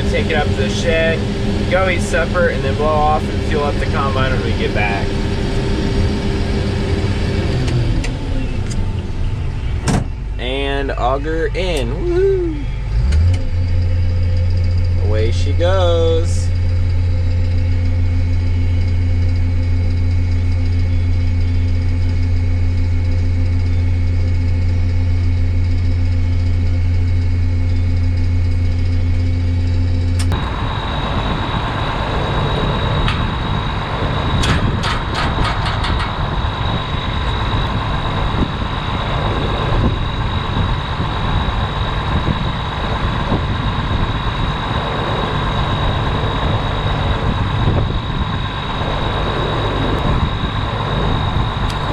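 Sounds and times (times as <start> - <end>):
combine harvester droning: 0.0 - 51.9
machine high whine: 0.0 - 51.9.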